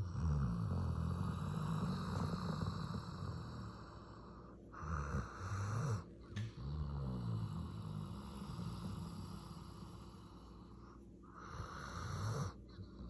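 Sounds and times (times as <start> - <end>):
dog snoring: 0.0 - 13.0.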